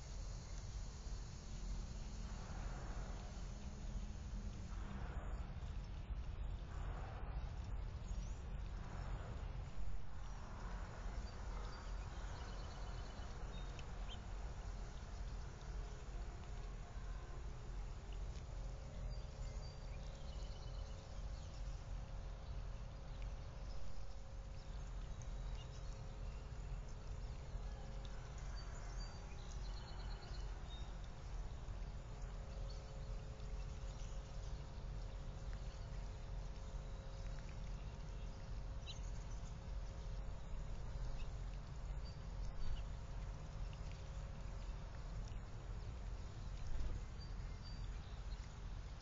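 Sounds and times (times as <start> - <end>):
faint steady hum: 0.0 - 49.0
low rumble: 0.3 - 49.0.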